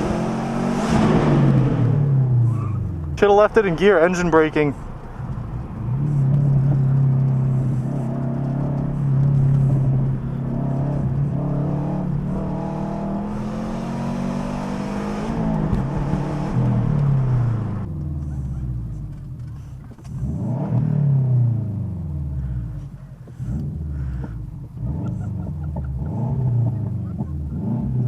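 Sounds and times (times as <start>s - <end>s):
car engine revving loud: 0.0s - 2.9s, 5.5s - 18.5s, 20.0s - 22.6s, 23.4s - 28.0s.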